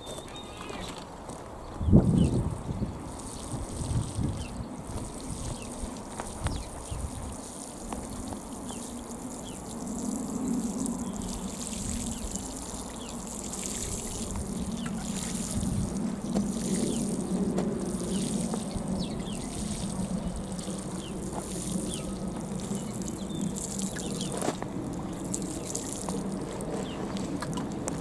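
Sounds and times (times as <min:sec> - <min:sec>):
water spraying onto soil: 0:01.0 - 0:28.0.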